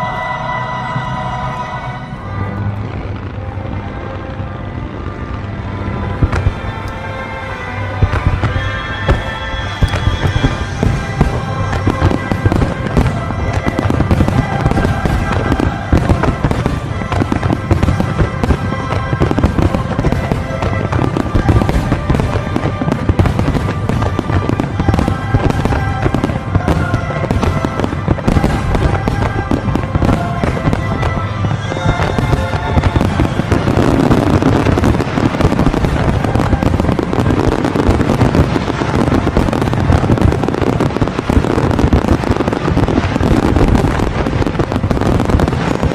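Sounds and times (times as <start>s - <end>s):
music: 0.0s - 45.9s
fireworks booming and crackling: 2.3s - 45.9s.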